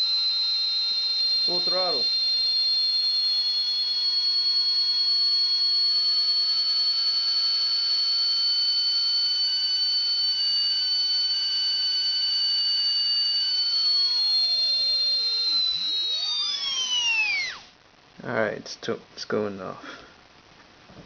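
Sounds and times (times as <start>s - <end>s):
steady high whistle: 0.0s - 17.7s
small electric motor whining: 0.0s - 17.8s.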